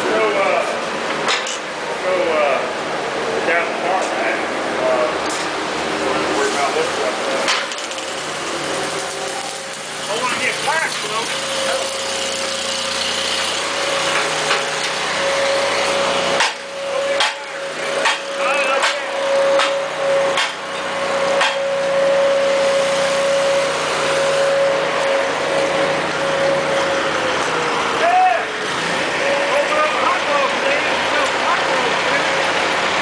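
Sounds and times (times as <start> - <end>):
continuous whine: 0.0 - 33.0
engine and machinery hum: 0.0 - 33.0.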